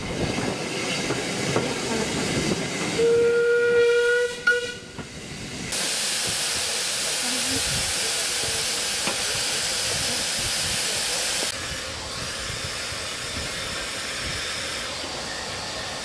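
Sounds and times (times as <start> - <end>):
steam locomotive hissing steam: 0.5 - 16.0.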